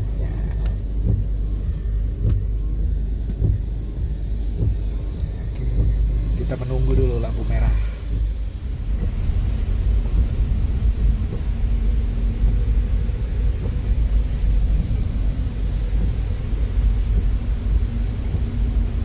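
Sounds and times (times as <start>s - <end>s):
car idling low rumble: 0.0s - 19.0s
faint steady hum: 0.0s - 19.0s.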